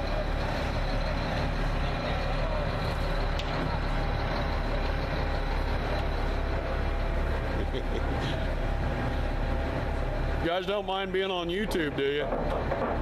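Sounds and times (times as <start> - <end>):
concrete mixer truck engine running: 0.0 - 13.0.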